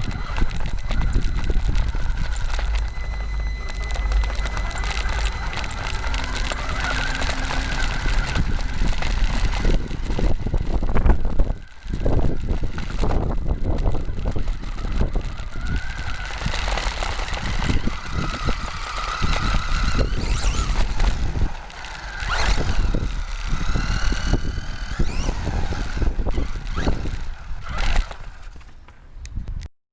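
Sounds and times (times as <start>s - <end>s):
toy car electric motor whining: 0.0s - 28.9s
tyres rattling on rough ground: 0.0s - 29.1s.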